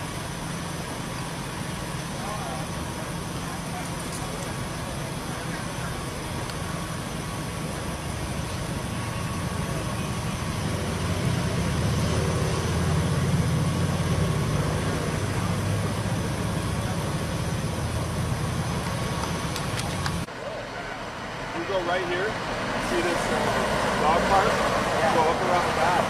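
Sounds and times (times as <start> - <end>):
haze of noise: 0.0 - 26.0
low engine rumble: 0.0 - 26.0.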